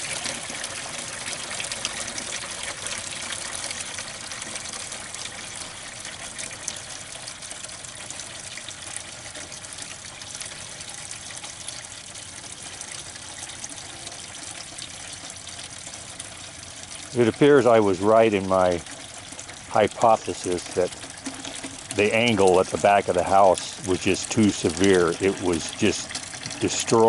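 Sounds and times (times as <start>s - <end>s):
water pouring from drain pipe: 0.0s - 27.0s.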